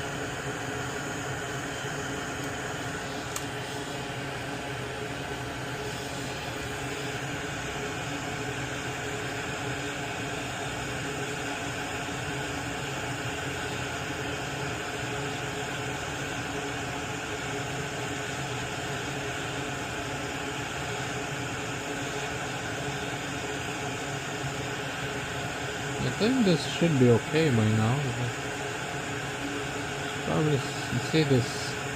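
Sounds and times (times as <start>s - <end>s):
small fan running: 0.0s - 31.9s.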